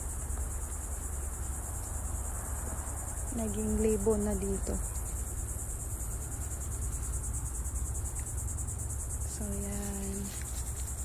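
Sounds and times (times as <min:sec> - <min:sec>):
pulsing insect chorus: 0:00.0 - 0:11.0.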